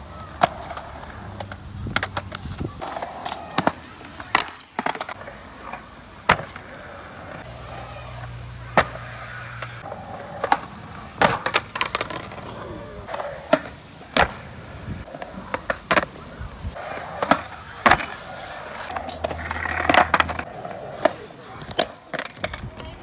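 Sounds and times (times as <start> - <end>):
skateboard wheels rolling on concrete: 0.0 - 23.0
skateboard clacking on concrete: 0.1 - 23.0.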